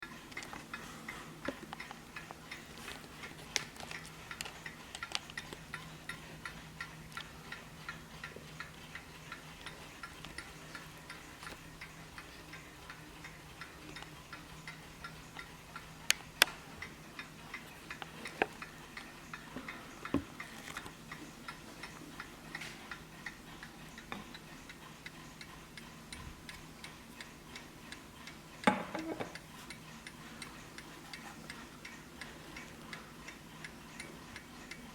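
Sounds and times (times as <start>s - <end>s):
clock ticking: 0.0s - 34.9s.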